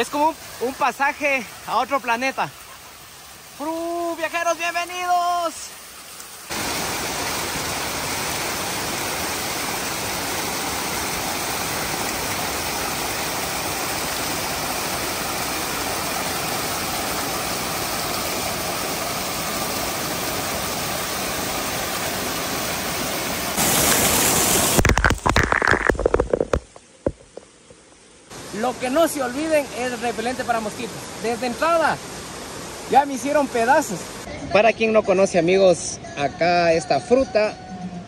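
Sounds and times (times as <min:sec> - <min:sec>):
water spraying onto microphone: 0:00.0 - 0:31.6
waterfall rushing: 0:00.0 - 0:35.9.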